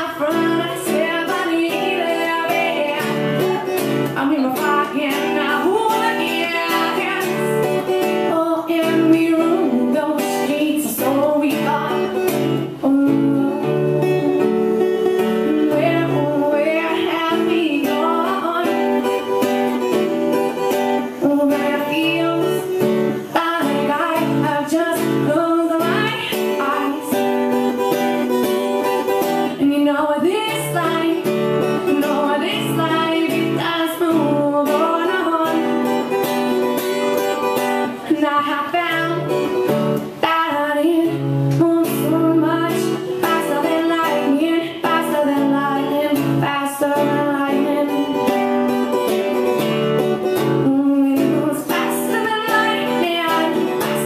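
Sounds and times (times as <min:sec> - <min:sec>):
acoustic guitar strumming: 0:00.0 - 0:54.0
woman singing: 0:00.0 - 0:54.0.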